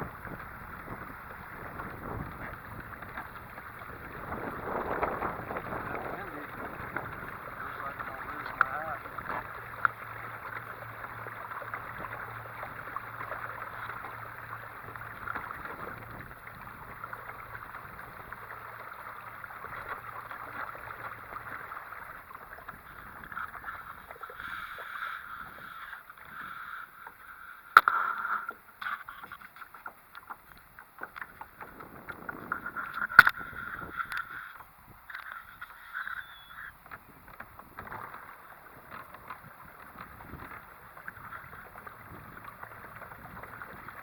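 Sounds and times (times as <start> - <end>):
water rushing along hull: 0.0 - 44.0.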